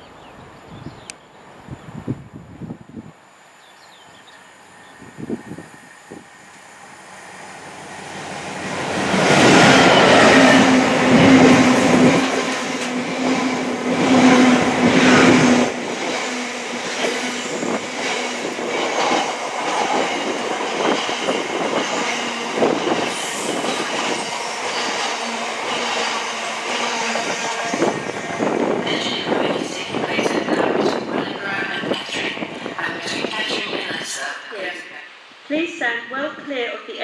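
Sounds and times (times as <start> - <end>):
train passing: 3.0 - 35.0.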